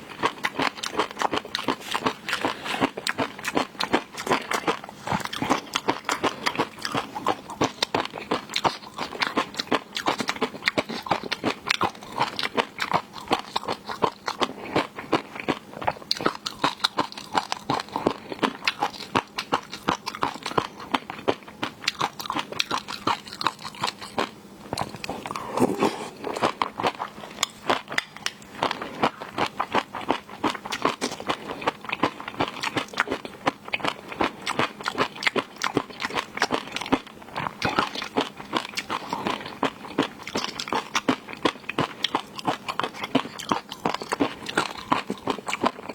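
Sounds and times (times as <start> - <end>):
crunchy wet chewing: 0.0 - 45.9.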